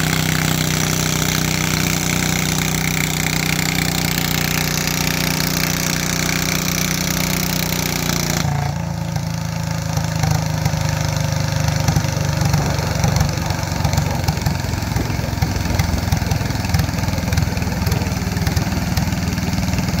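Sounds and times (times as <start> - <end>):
garden tractor engine running: 0.0 - 20.0.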